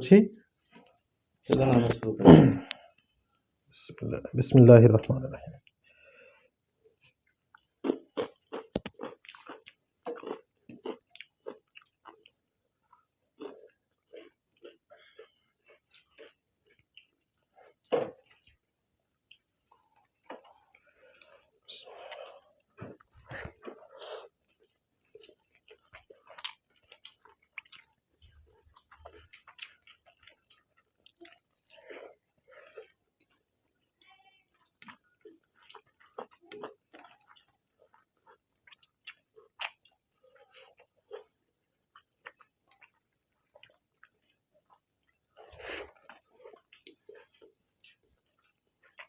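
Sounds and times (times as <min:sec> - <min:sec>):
people chewing food: 0:00.4 - 0:03.5, 0:05.6 - 0:49.0.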